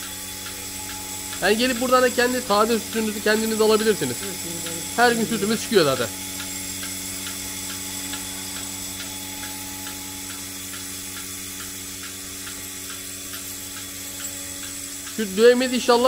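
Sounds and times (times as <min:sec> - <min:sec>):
pulsator ticking: 0:00.0 - 0:16.0
vacuum pump humming: 0:00.0 - 0:16.0.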